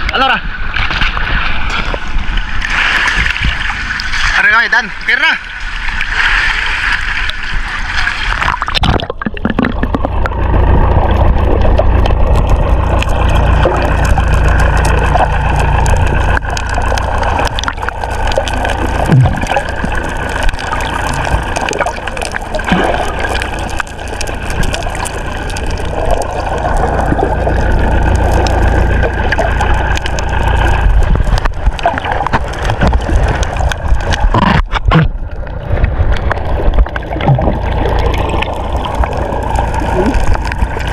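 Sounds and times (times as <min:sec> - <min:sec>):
steady low rumble: 0:00.0 - 0:40.9
water sloshing against hull: 0:00.0 - 0:40.9.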